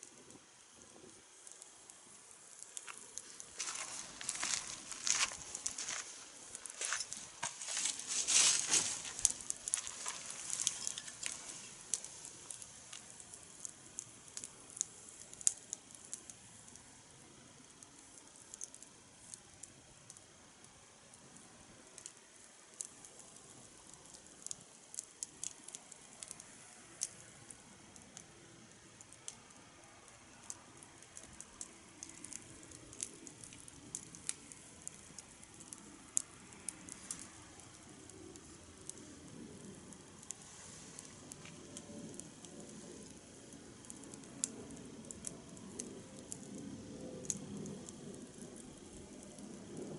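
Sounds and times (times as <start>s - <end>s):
fire hissing: 0.0s - 49.9s
wood fire crackling and popping: 0.0s - 49.9s.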